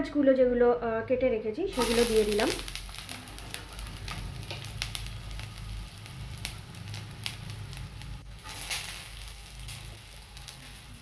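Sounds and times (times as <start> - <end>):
onions sizzling in hot oil: 1.7 - 11.0.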